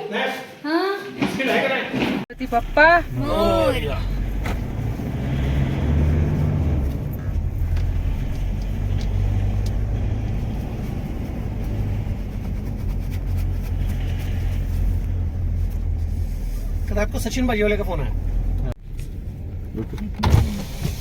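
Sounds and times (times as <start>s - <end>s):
car engine and road noise: 2.2s - 21.0s.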